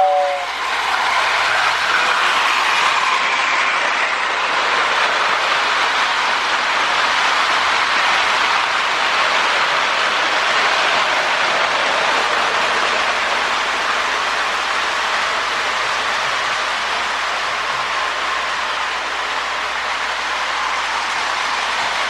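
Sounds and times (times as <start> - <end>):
wheels rolling on rails: 0.0 - 22.0.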